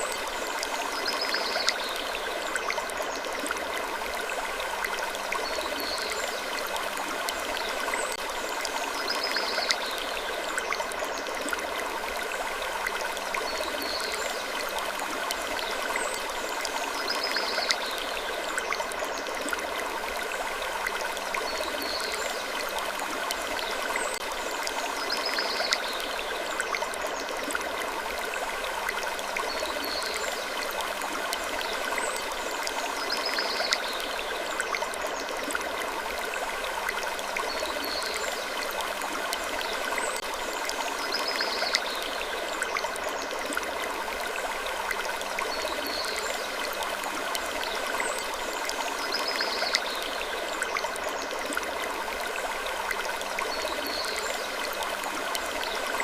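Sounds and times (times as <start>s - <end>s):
steady rushing like a stream: 0.0s - 56.0s.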